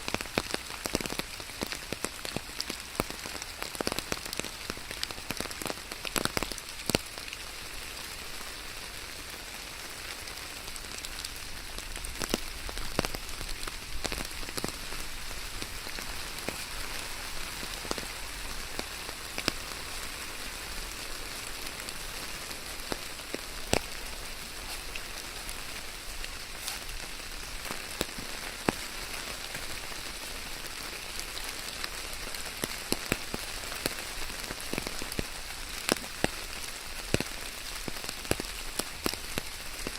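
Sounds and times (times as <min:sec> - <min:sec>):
raindrops tapping: 0:00.0 - 0:39.9
steady rain hiss: 0:00.0 - 0:39.9.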